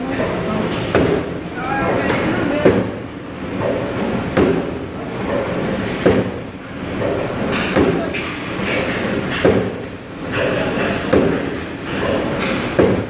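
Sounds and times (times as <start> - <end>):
machine knocking: 0.0 - 13.0.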